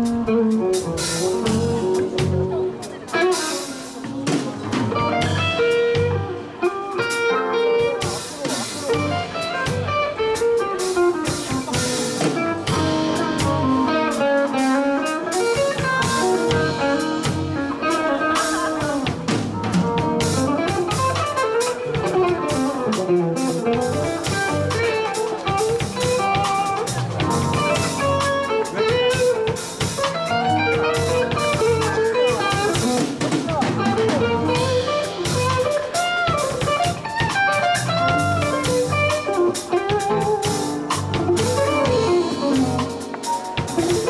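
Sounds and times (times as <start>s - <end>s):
drum kit: 0.0s - 44.0s
electric bass: 0.0s - 44.0s
electric guitar lead: 0.0s - 44.0s.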